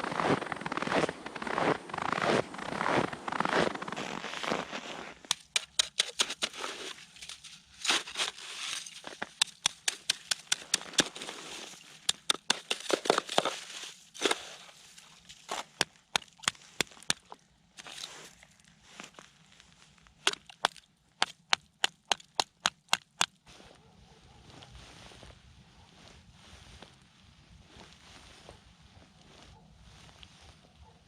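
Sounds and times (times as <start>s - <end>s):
ice and snow crunching: 0.0s - 22.4s, 24.6s - 30.6s.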